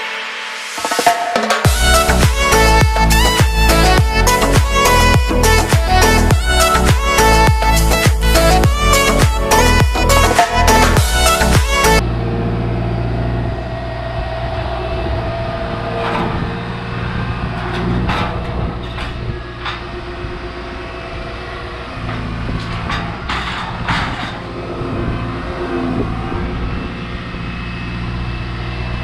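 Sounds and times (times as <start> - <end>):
excavator diesel engine running: 1.6 - 29.0.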